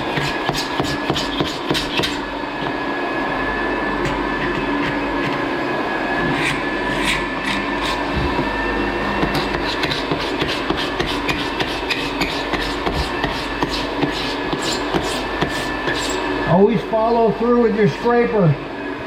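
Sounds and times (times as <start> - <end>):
hand floor scraper on floorboards: 0.0 - 17.2
machine drone with high whine: 0.0 - 19.0.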